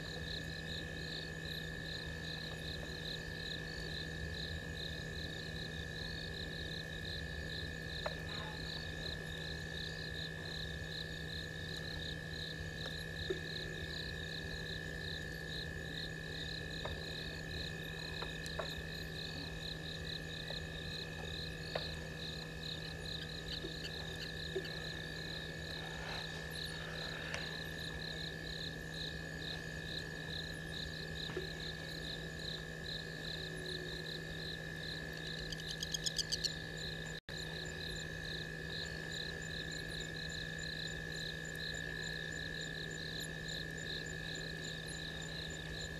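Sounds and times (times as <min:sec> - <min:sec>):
rapid pulsing insect chirp: 0:00.0 - 0:45.9
steady low hum: 0:00.0 - 0:45.9.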